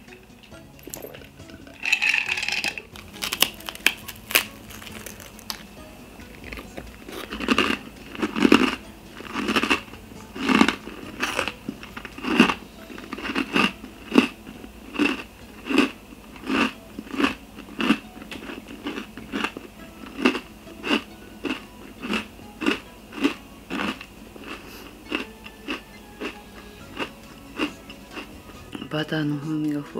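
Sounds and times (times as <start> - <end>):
person crunching a rusk: 1.0 - 28.3.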